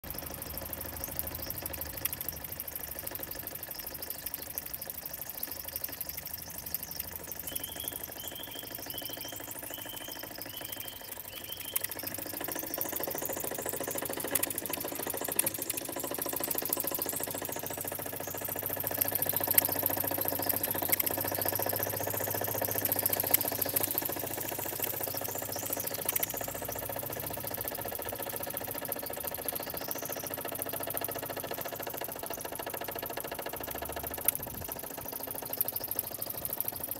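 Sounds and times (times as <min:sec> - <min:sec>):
toy steam engine chuffing: 0:00.0 - 0:36.9.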